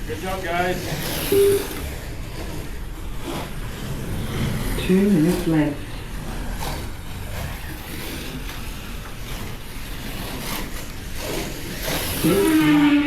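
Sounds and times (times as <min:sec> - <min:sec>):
small electric motors whining: 0:00.1 - 0:13.0.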